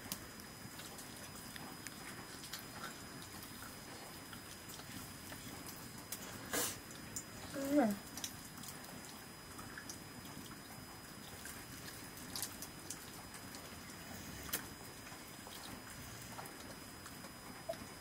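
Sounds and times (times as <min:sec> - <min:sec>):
low steady background hum: 0:00.0 - 0:18.0.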